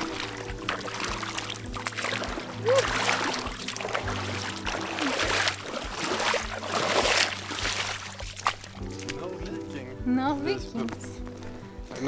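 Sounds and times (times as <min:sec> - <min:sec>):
background music with steady beat: 0:00.0 - 0:12.0
river water splashing: 0:00.0 - 0:12.0.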